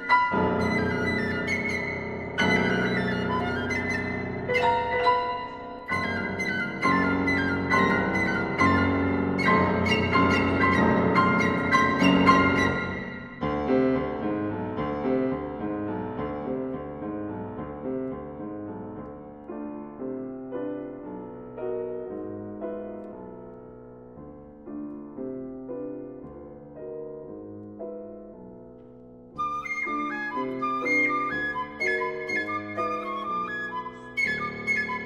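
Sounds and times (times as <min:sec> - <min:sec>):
soft piano passage: 0:00.0 - 0:35.0.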